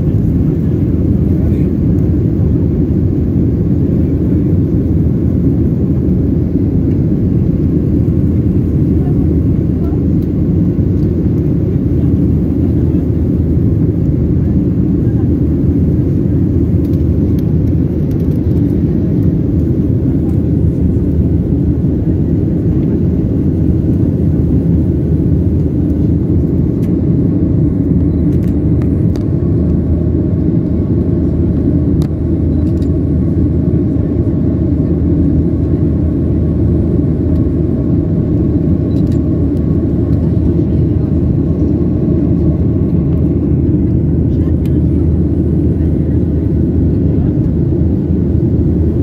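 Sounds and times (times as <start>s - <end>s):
jet airliner cabin roar: 0.0s - 49.0s.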